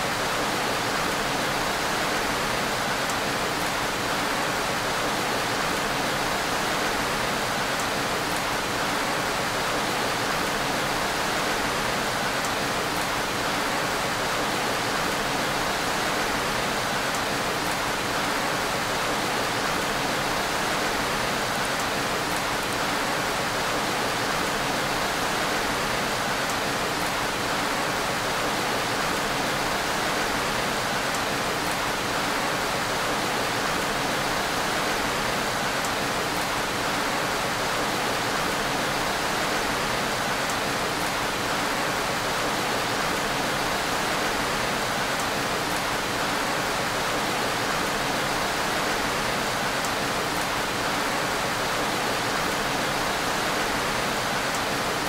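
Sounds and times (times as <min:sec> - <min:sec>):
steady gentle rain: 0:00.0 - 0:55.0.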